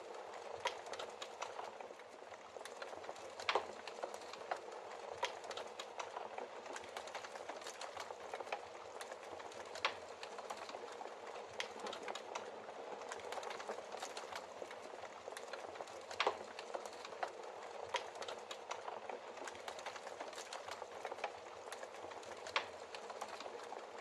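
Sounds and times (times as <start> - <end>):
burning logs crackling: 0.0 - 24.0.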